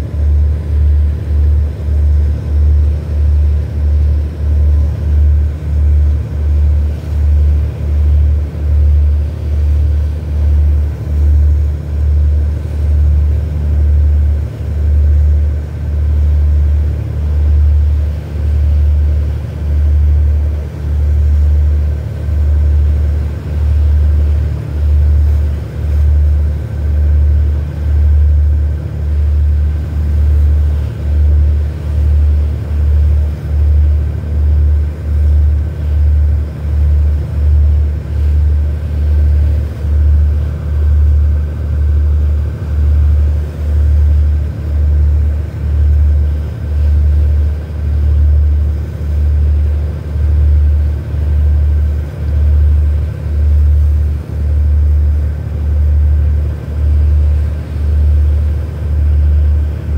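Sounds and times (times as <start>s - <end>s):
faint steady whine: 0.0s - 59.9s
low throbbing engine rumble: 0.0s - 59.9s.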